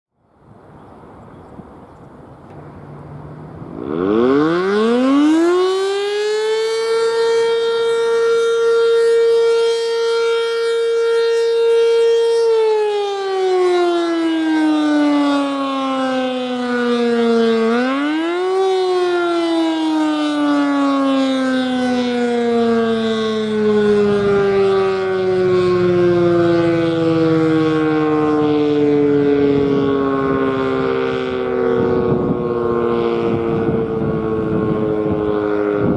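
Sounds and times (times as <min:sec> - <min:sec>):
civil defense siren wailing: 0:00.1 - 0:35.9.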